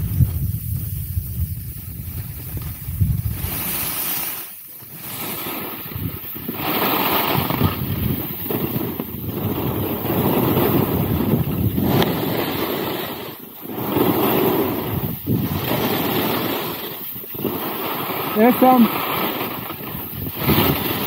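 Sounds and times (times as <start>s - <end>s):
wind buffeting microphone: 0.0s - 4.0s, 5.6s - 21.0s
skis hissing over snow: 0.0s - 21.0s.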